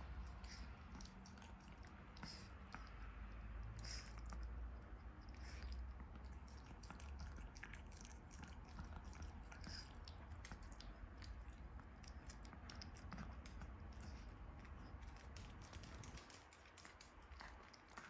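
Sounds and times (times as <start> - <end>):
dog chewing: 0.0 - 18.0.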